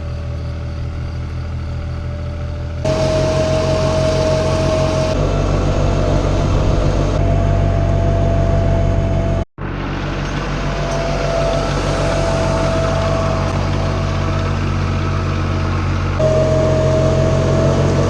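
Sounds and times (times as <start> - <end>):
high whine: 0.0 - 18.0
tractor engine running: 0.0 - 18.0.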